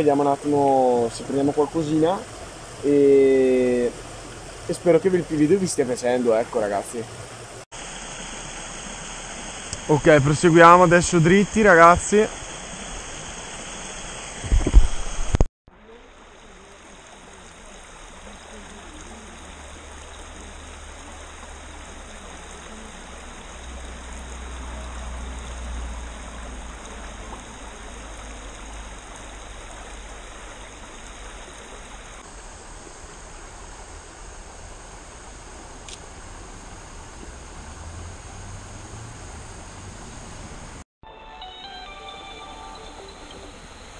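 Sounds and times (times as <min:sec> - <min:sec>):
stream flowing over stones: 0:00.0 - 0:39.5.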